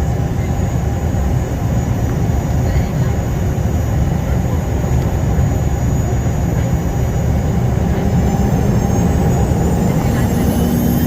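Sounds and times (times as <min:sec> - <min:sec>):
high engine whine: 0:00.0 - 0:11.0
jet engines rumbling in cabin: 0:00.0 - 0:11.0.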